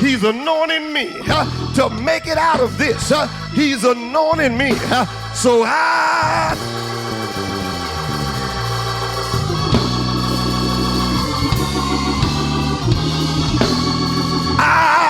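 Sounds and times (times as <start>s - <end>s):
organ chords: 0.0s - 15.0s
praise band playing: 0.0s - 15.0s
steady bass: 1.3s - 15.0s.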